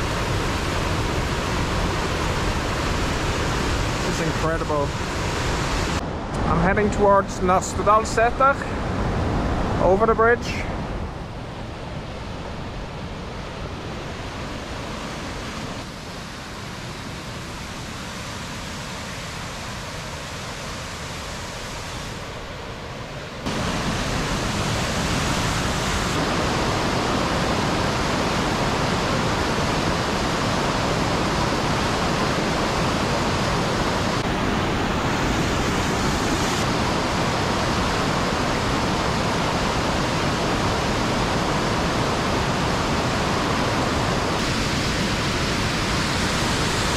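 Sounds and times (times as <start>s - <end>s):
river rushing over rapids: 0.0s - 46.9s.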